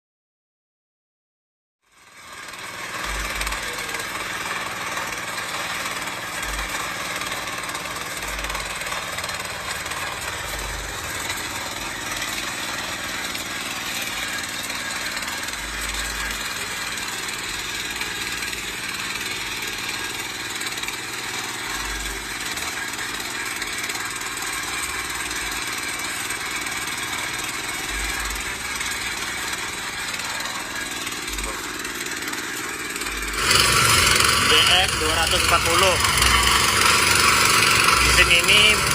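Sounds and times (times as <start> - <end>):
tiller petrol engine clattering: 1.9 - 38.9.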